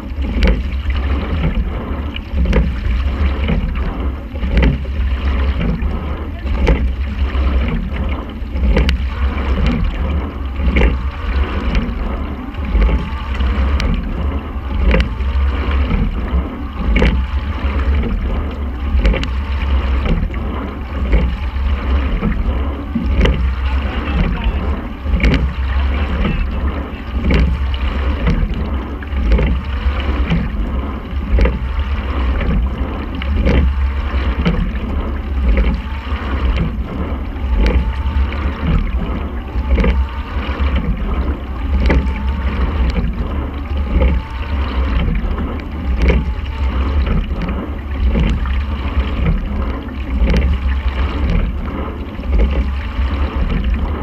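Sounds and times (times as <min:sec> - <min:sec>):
rushing water: 0:00.0 - 0:54.0
steady low rumble: 0:00.0 - 0:54.0.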